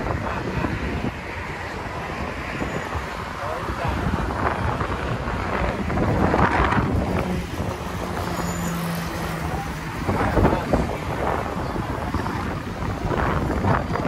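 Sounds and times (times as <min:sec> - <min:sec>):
highway traffic passing: 0:00.0 - 0:14.0
wind buffeting microphone: 0:00.0 - 0:14.0.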